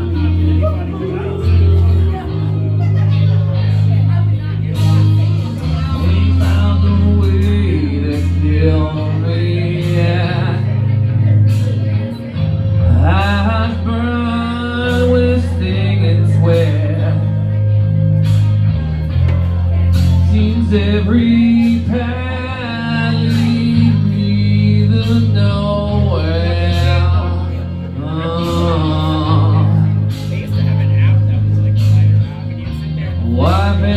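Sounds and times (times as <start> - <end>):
backing track with bass line: 0.0 - 33.9
man singing karaoke: 0.0 - 33.9.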